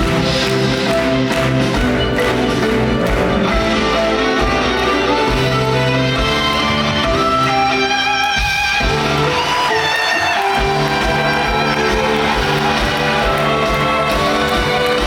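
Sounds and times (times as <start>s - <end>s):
instrumental stage music: 0.0s - 15.0s.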